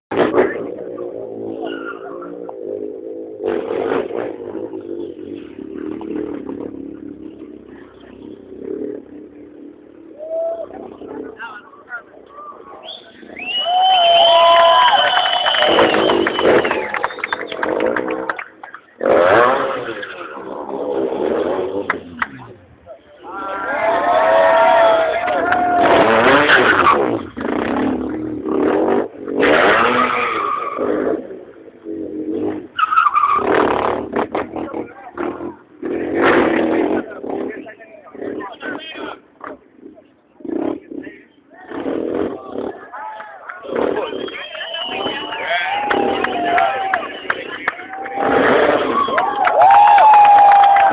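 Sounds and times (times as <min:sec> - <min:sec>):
motorcycle engine revving: 0:00.1 - 0:13.4, 0:15.4 - 0:23.4, 0:24.9 - 0:43.0, 0:43.6 - 0:49.6.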